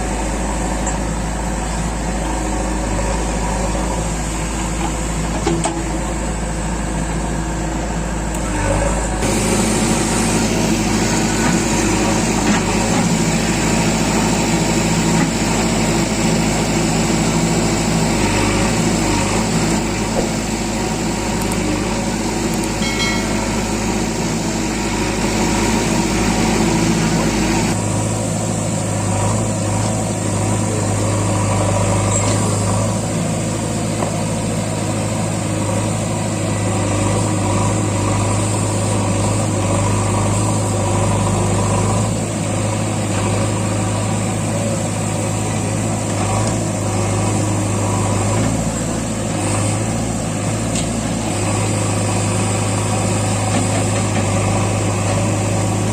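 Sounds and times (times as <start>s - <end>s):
diesel engine droning: 0.0s - 55.9s.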